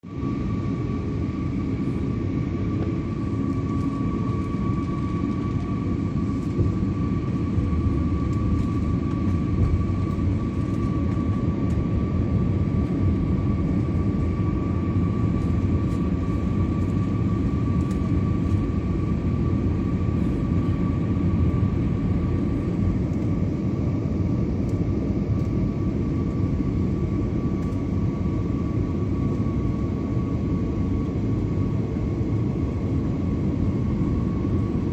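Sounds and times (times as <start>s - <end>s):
constant high whine: 0.0s - 34.9s
engine and airflow rumble: 0.0s - 34.9s.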